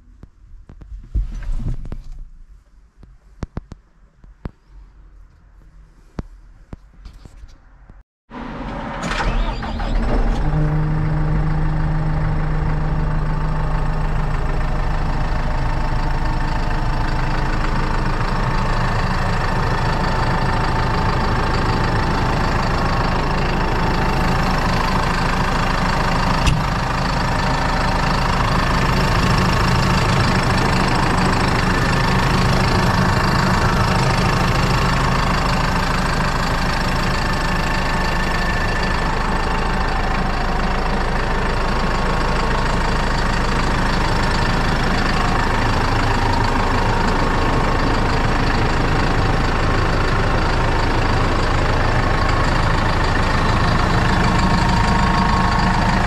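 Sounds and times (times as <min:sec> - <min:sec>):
tractor engine cranking and idling: 0:06.2 - 0:56.0.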